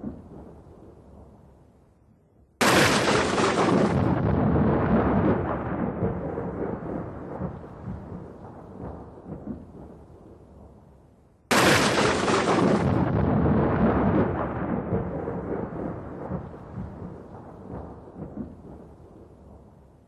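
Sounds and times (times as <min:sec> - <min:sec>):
thunder crack and rumble: 0:00.0 - 0:01.4, 0:02.6 - 0:10.8, 0:11.5 - 0:19.8.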